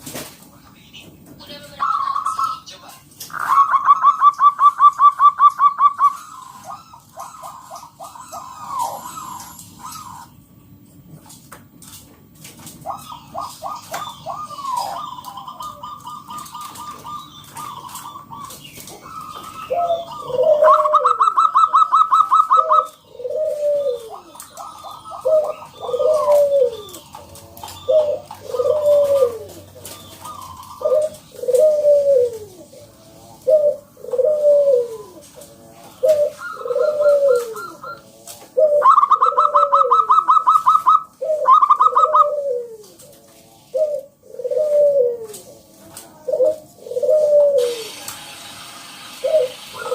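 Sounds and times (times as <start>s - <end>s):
doves cooing: 1.7s - 49.9s.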